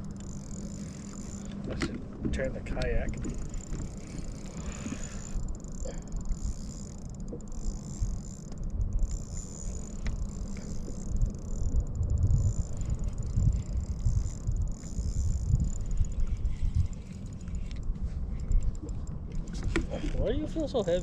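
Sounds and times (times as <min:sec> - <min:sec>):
faint clicks of fishing gear: 0:00.0 - 0:11.8, 0:12.4 - 0:20.3
wind buffeting microphone: 0:00.0 - 0:21.0.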